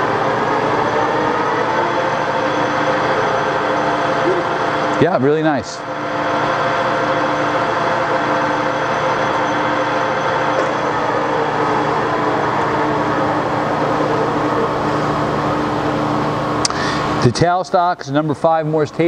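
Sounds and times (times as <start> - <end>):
lathe humming and whining: 0.0 - 19.0.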